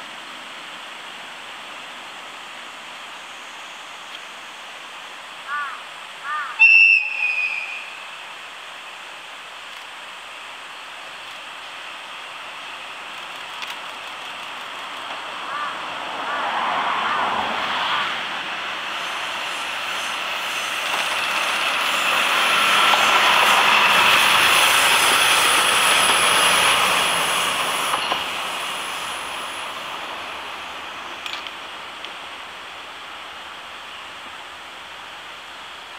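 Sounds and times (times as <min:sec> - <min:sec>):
diesel locomotive passing by: 0:00.0 - 0:35.9.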